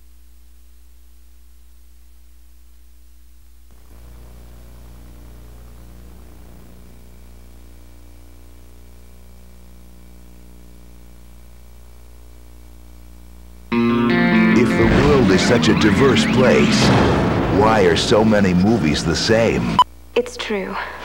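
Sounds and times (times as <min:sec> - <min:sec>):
tape hiss: 0:00.0 - 0:21.0
electrical hum: 0:03.7 - 0:21.0.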